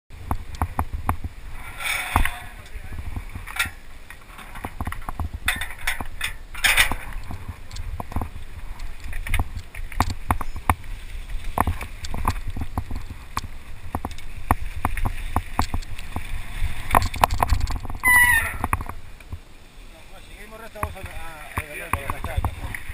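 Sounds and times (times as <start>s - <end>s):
low wind rumble: 0.1s - 21.4s
mountain bike rattling over rocks: 0.2s - 19.1s, 20.6s - 22.9s.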